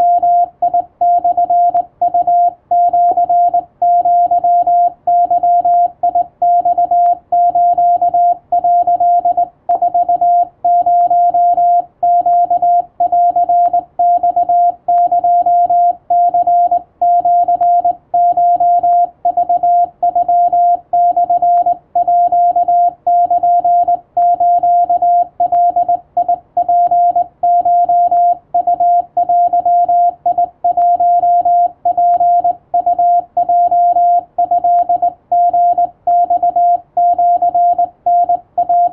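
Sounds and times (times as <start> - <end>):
morse code tone beeps: 0.0 - 38.9.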